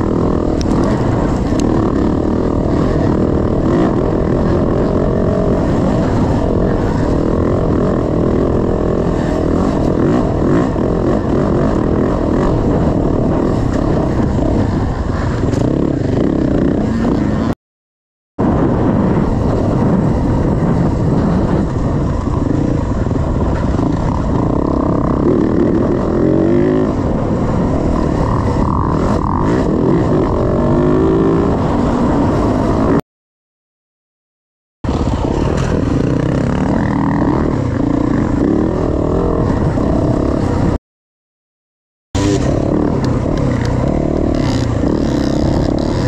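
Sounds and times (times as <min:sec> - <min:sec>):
dirt bike engine revving: 0:00.0 - 0:17.6, 0:19.4 - 0:33.0, 0:34.9 - 0:40.8, 0:42.2 - 0:46.0
wind rush on microphone: 0:00.0 - 0:17.6, 0:18.4 - 0:33.0, 0:34.8 - 0:40.8, 0:42.2 - 0:46.0.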